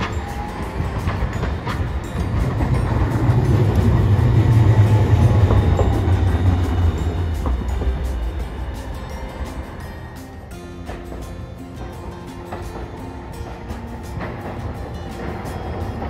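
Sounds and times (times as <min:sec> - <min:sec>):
tram wheels rumbling on rails: 0:00.0 - 0:16.0.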